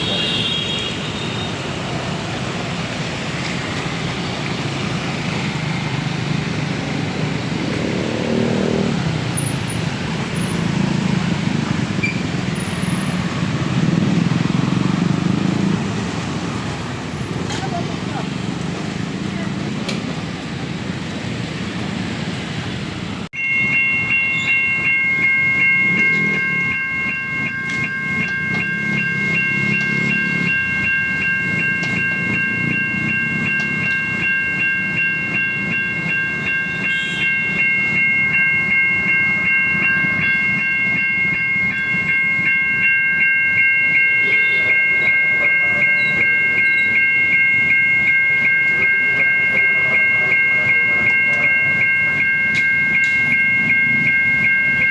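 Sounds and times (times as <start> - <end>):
level crossing warning bell: 0.0 - 54.9
street traffic: 0.0 - 54.9.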